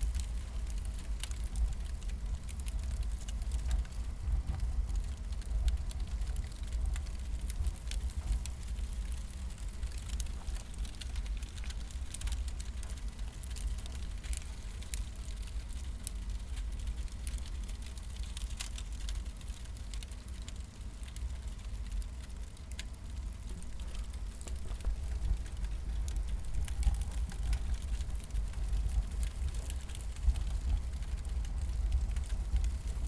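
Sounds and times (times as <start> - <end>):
steady low rumble: 0.0 - 33.0
wood fire crackling and popping: 0.0 - 33.0.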